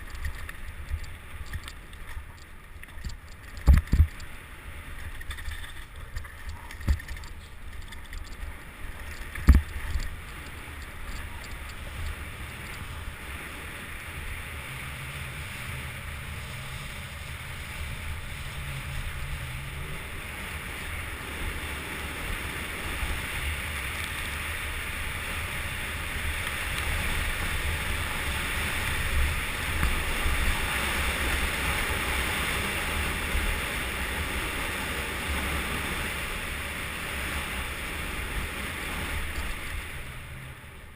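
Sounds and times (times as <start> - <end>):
mountain bike rumble and rattle: 0.0 - 40.9
wind rushing over microphone: 0.0 - 40.9.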